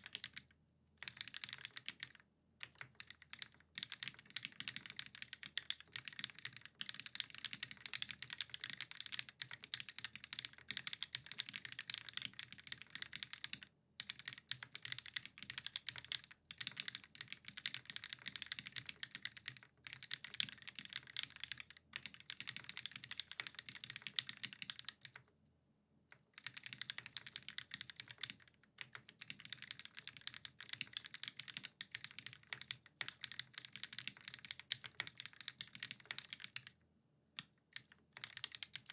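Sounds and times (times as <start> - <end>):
fast typing on mechanical keyboard: 0.0 - 25.2, 26.1 - 36.7, 37.4 - 38.9.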